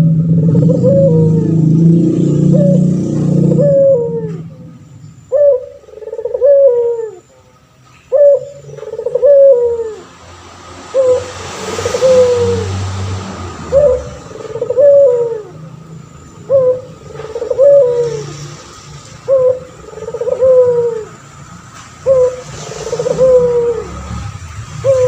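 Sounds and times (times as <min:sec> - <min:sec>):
dove cooing: 0:00.0 - 0:07.4, 0:08.1 - 0:10.1, 0:10.9 - 0:12.8, 0:13.6 - 0:18.5, 0:19.2 - 0:21.2, 0:22.0 - 0:25.0.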